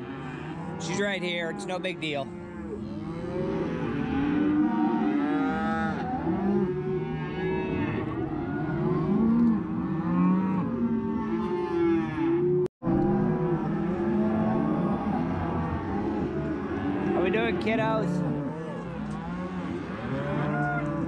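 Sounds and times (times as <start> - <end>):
cattle bawling: 0.0 - 21.0.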